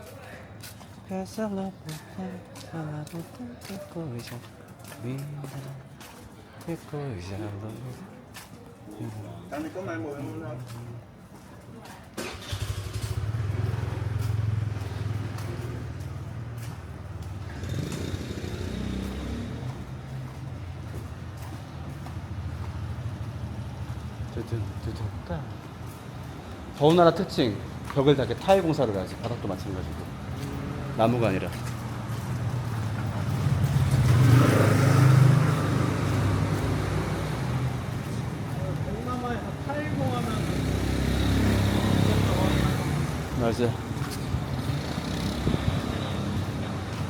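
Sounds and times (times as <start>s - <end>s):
vehicle engine and road rumble: 0.0s - 47.0s.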